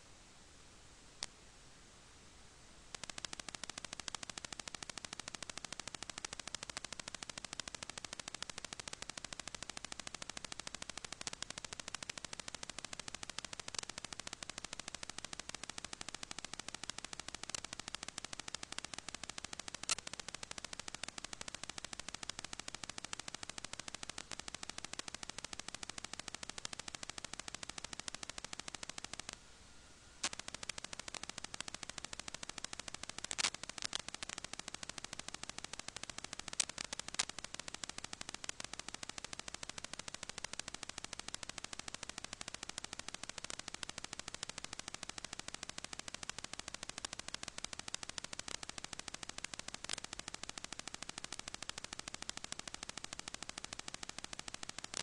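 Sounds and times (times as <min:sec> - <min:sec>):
crackling static: 0:00.0 - 0:55.0
loud clicks: 0:02.9 - 0:29.4, 0:30.2 - 0:55.0.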